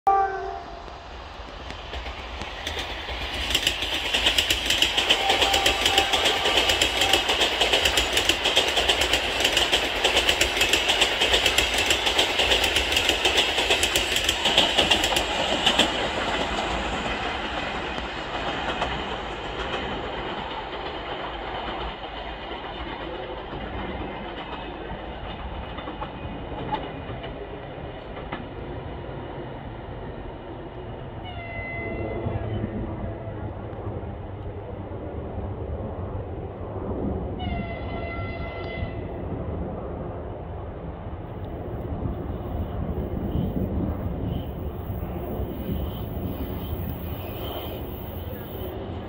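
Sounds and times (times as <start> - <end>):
train wheels rolling on rails: 0.7 - 31.3, 32.3 - 49.0.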